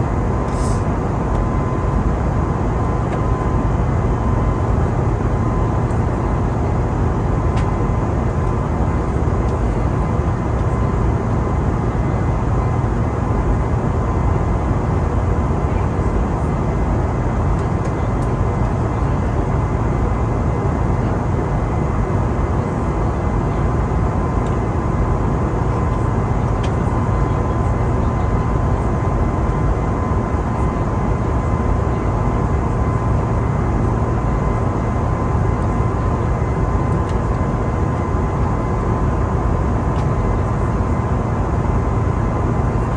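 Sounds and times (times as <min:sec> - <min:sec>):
engine and airflow rush: 0:00.0 - 0:42.9.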